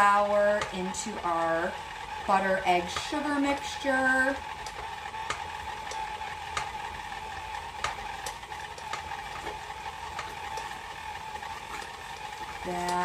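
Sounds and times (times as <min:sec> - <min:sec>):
stand mixer motor whine: 0:00.0 - 0:13.0.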